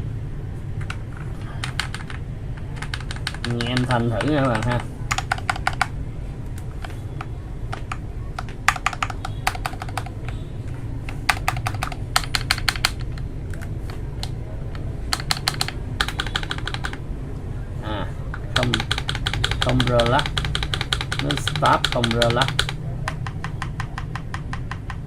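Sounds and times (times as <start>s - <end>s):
mechanical keyboard typing: 0.8s - 10.4s, 11.0s - 17.0s, 18.3s - 25.0s.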